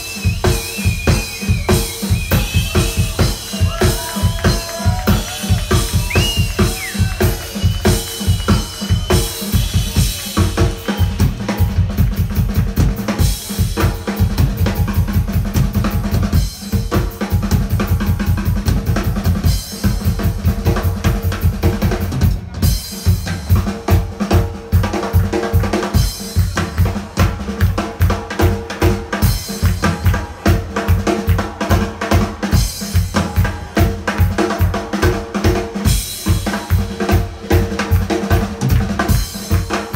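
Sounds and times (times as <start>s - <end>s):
drum kit beat: 0.0s - 39.9s
live blues band: 0.0s - 39.9s.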